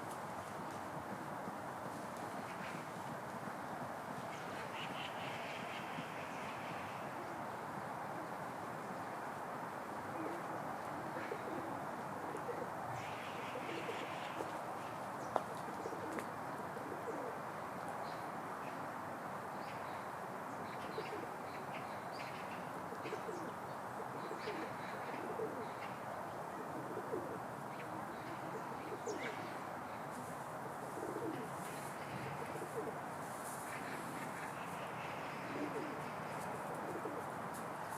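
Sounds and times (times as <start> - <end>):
steady background hiss: 0.0 - 37.9.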